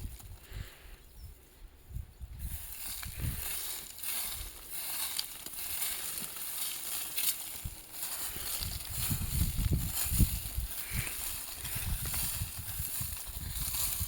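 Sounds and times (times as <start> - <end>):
scratchy strokes on dry ground: 0.0 - 14.0.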